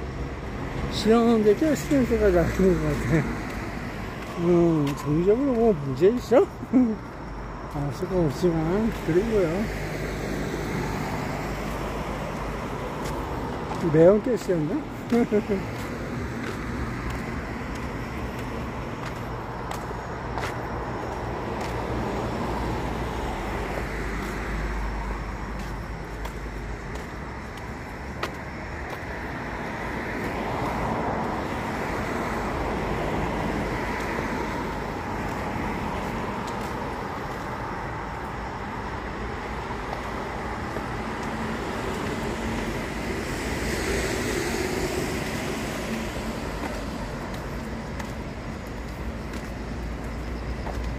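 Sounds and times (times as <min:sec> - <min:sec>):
cars passing: 0:00.0 - 0:50.9.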